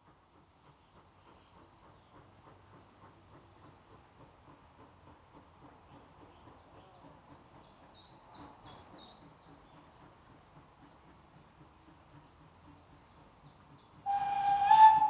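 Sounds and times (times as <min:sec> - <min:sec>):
distant steam locomotive exhaust beats: 0:00.0 - 0:15.0.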